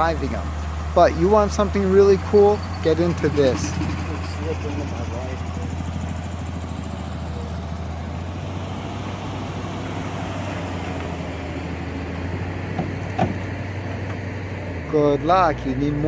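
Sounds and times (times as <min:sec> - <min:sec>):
low engine hum: 0:00.0 - 0:16.0
outdoor background noise: 0:00.0 - 0:16.0.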